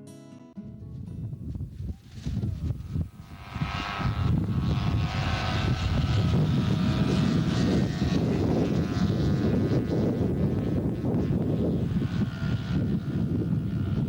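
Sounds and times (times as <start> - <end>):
wind buffeting microphone: 0.6 - 14.0
racing motorcycles buzzing: 1.6 - 14.0.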